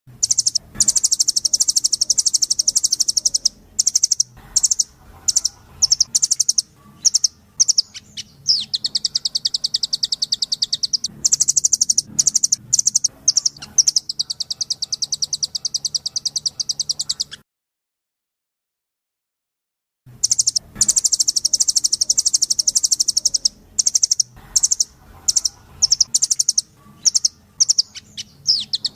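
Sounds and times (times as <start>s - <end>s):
bird calling in rapid trills: 0.2s - 17.4s, 20.2s - 28.9s.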